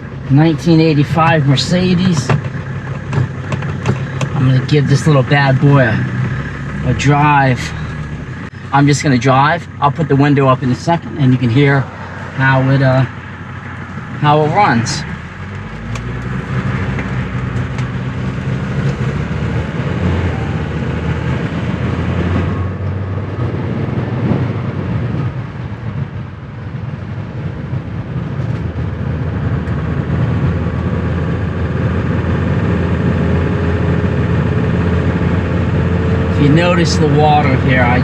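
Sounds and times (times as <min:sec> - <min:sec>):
diesel car engine accelerating: 0:00.0 - 0:38.0
road noise: 0:00.0 - 0:38.0.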